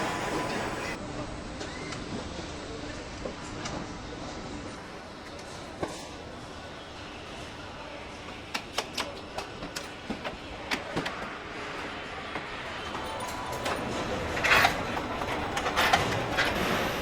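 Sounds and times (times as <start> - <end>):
steady machinery noise: 0.0 - 17.0.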